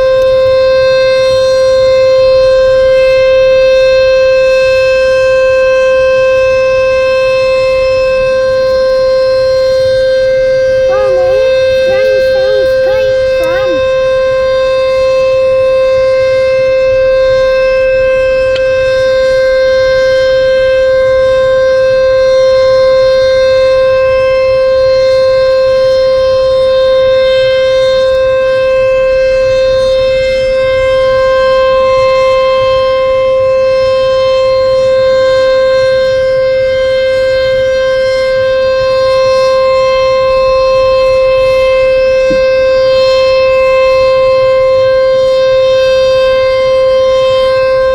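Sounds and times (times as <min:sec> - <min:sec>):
siren steady tone: 0:00.0 - 0:47.9.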